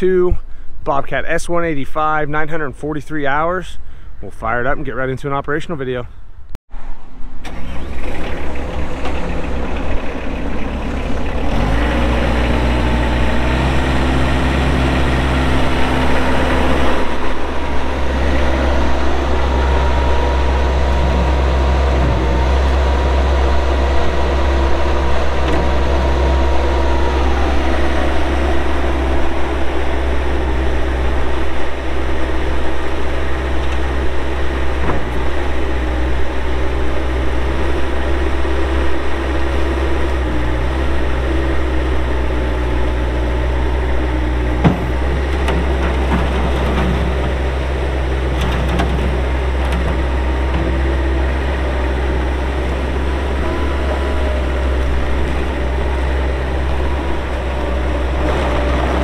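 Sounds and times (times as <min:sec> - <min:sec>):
diesel engine starting and running: 0:01.8 - 0:59.0.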